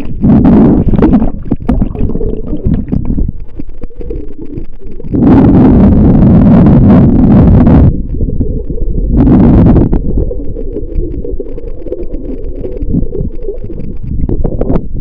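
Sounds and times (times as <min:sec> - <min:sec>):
underwater rushing bursts: 0:00.0 - 0:14.8
low underwater rumble: 0:00.0 - 0:15.0.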